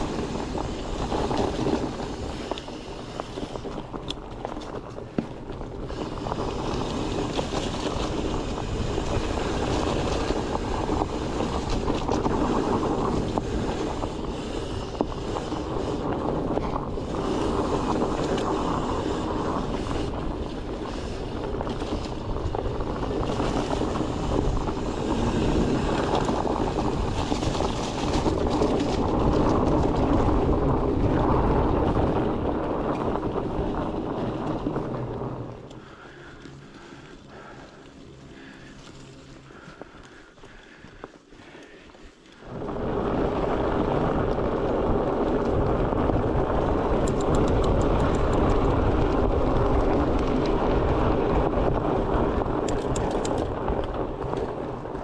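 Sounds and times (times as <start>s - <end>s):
bike tyres rumbling on dirt trail: 0.0s - 55.0s
wind buffeting microphone: 0.0s - 55.0s.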